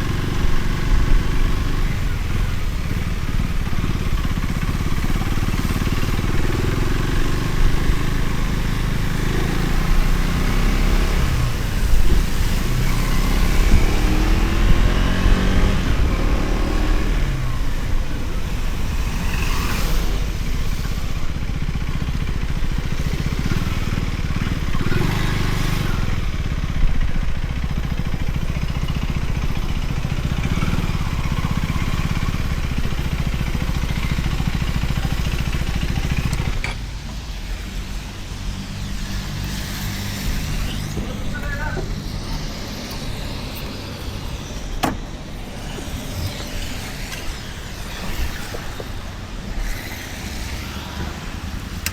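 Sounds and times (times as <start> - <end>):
motorcycle engine accelerating: 0.0 - 51.9
road and wind noise: 0.0 - 51.9.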